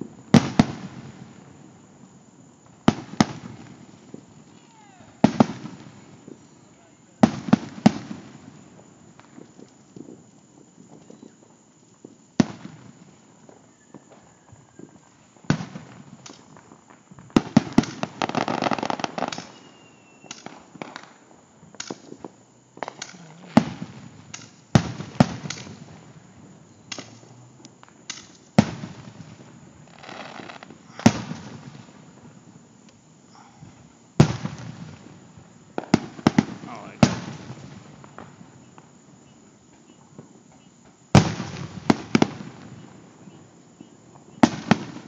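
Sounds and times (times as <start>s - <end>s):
fireworks bangs: 0.0s - 45.0s
fireworks crackling: 0.0s - 45.0s.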